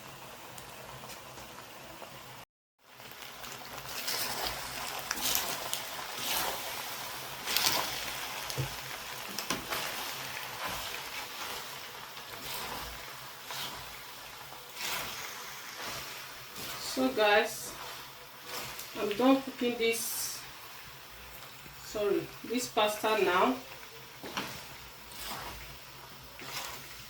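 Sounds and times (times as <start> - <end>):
cooking hiss: 0.0 - 27.0.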